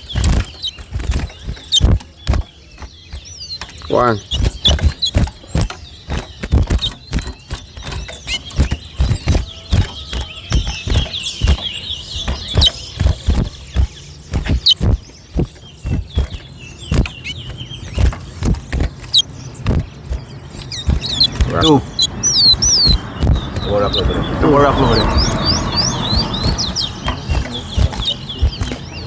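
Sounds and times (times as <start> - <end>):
bird trilling song: 0.0 - 29.0
finches chirping: 0.0 - 29.0
knocks and thumps: 0.0 - 29.0.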